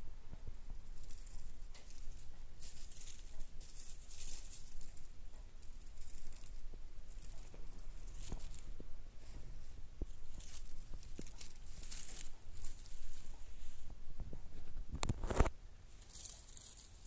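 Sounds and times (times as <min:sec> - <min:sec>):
kitten paws rustling on blanket: 0:00.3 - 0:17.0.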